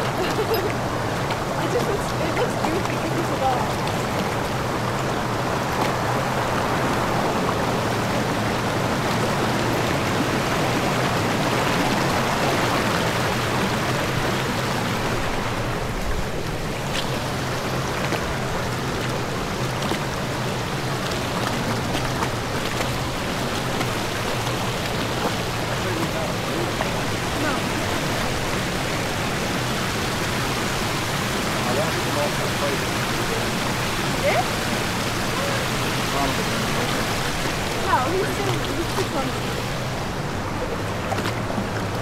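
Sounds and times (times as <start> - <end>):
creek water running over rocks: 0.0 - 42.0.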